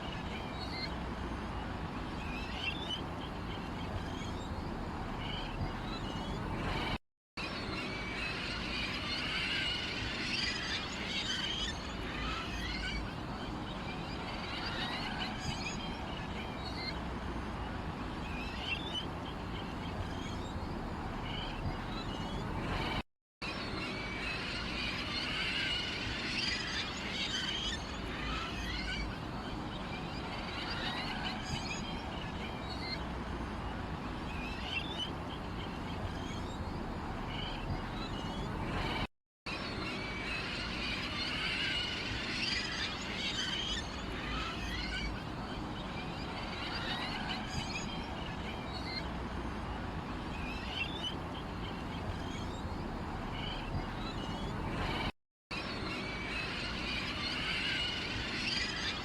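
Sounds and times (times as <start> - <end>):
small birds chirping: 0.0 - 23.0, 23.6 - 59.0.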